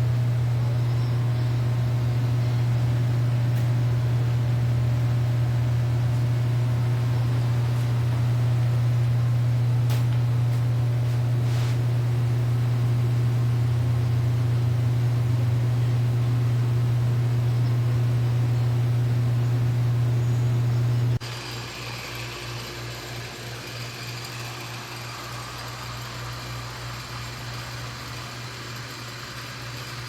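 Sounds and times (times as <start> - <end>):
pool pump motor humming: 0.0 - 30.0.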